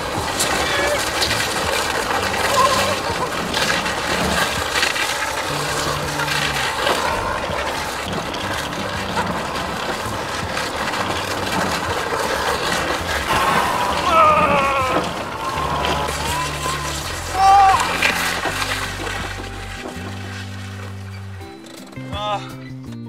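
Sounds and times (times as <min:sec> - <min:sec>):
car engine running: 0:00.0 - 0:22.3
tyre and road noise: 0:00.0 - 0:23.0.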